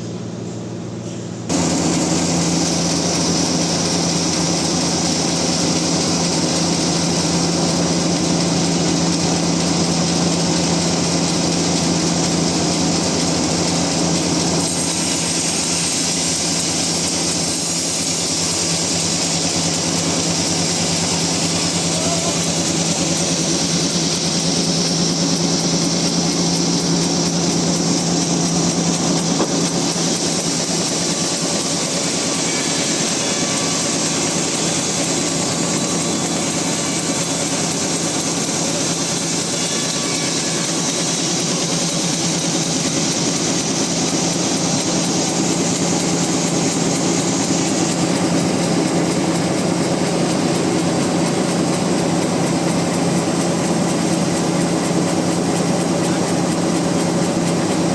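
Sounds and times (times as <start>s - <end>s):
sawmill machine hum: 0.0s - 57.9s
high-pitched saw blade noise: 1.5s - 57.9s.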